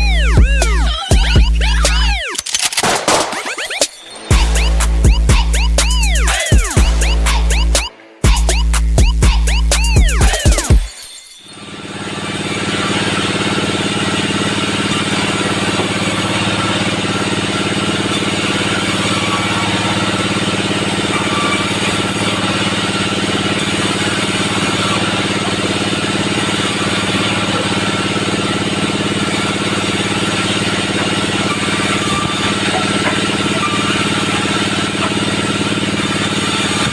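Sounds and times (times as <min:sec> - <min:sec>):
sawmill machine drone: 0:00.0 - 0:36.9.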